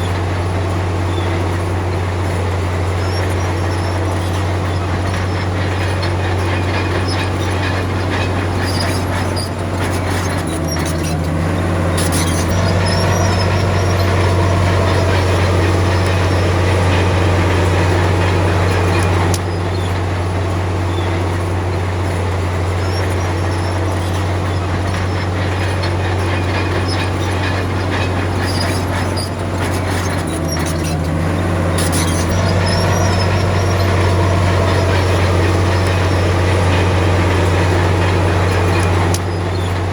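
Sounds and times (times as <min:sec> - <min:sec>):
bulldozer diesel engine droning: 0:00.0 - 0:39.9
metallic clatter of tracks: 0:00.0 - 0:39.9.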